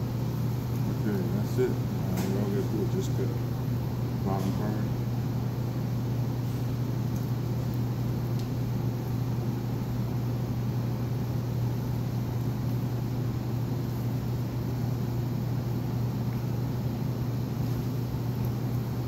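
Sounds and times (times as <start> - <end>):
kitchen machinery humming: 0.0 - 19.0.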